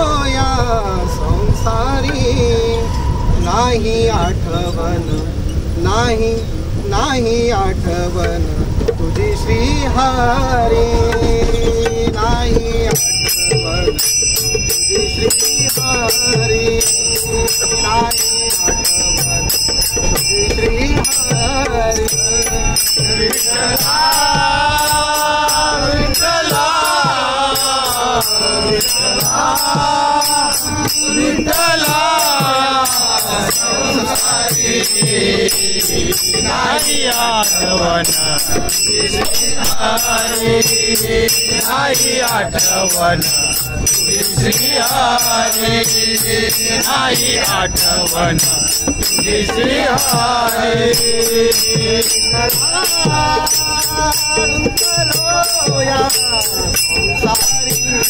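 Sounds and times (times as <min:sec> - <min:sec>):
men singing together: 0:00.0 - 0:58.0
hand cymbals striking: 0:08.0 - 0:58.0
hand drum: 0:08.2 - 0:58.0.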